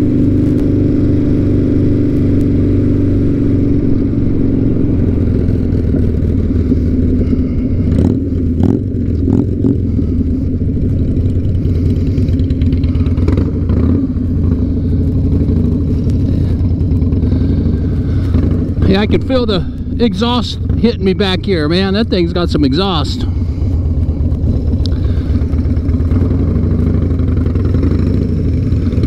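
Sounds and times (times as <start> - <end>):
motorcycle engines droning: 0.0 - 29.0.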